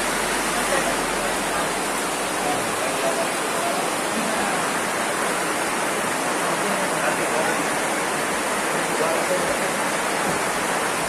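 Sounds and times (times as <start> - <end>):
heavy rain on a tent roof: 0.0 - 11.0.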